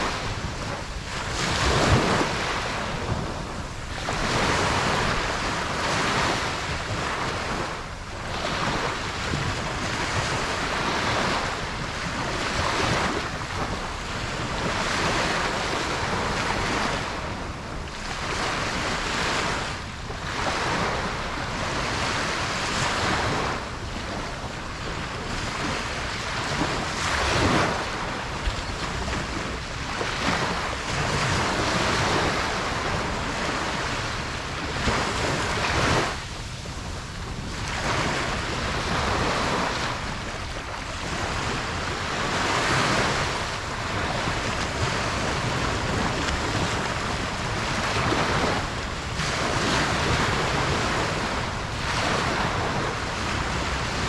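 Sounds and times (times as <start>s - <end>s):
ocean waves breaking: 0.0s - 54.0s
wind on microphone: 0.0s - 54.0s.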